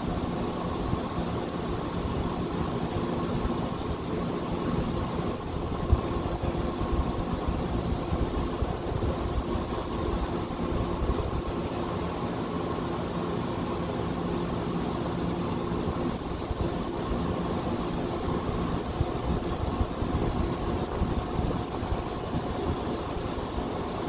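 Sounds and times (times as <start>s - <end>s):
mechanical hum with held tones: 0.0s - 24.0s.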